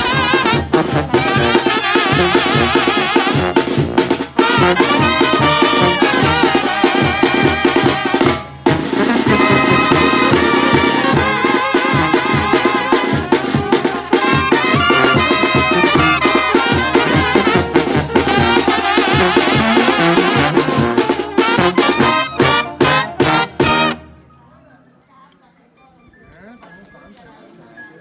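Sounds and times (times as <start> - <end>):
brass band playing: 0.0 - 24.3.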